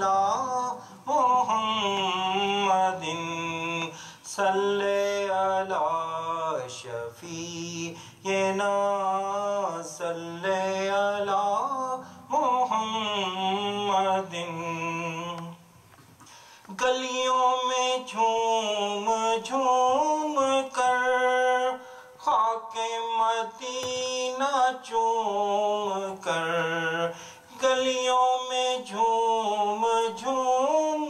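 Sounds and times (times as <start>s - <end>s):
man singing unaccompanied: 0.0s - 15.7s, 16.7s - 31.0s.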